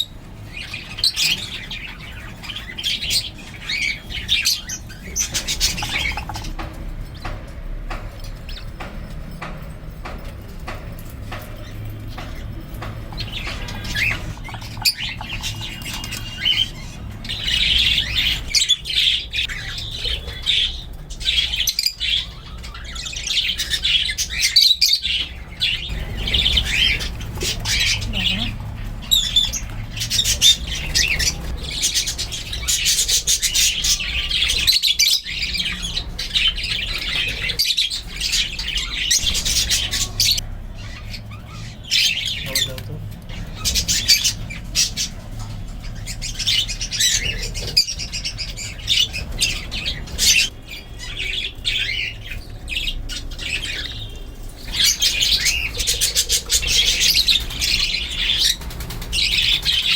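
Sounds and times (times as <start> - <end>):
budgerigar chicks squawking: 0.0 - 59.9.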